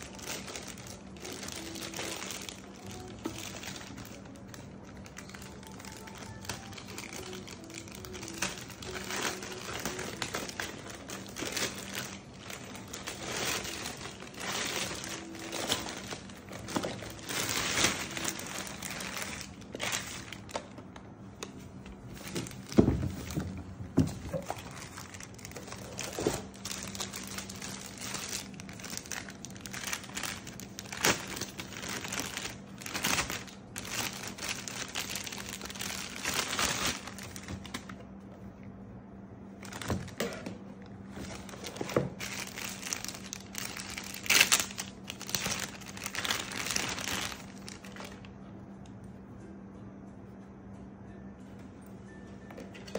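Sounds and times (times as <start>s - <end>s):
plastic bag crinkling: 0.0s - 38.1s, 39.5s - 48.4s.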